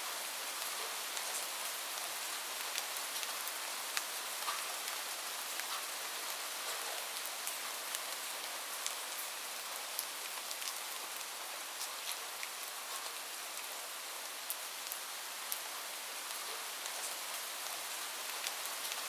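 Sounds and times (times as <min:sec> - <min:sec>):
raindrops ticking on a surface: 0:00.3 - 0:19.0.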